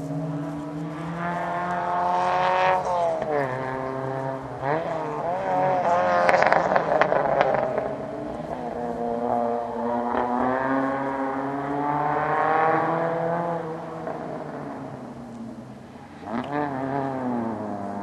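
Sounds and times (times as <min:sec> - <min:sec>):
engine crackling: 0:00.0 - 0:18.0
rally car engine revving: 0:00.0 - 0:18.0.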